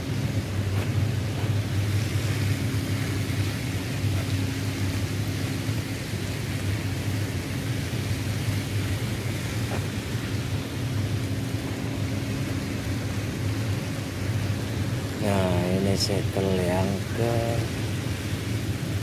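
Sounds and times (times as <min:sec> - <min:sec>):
constant rumbling: 0:00.0 - 0:19.0
ship machinery humming: 0:00.0 - 0:19.0.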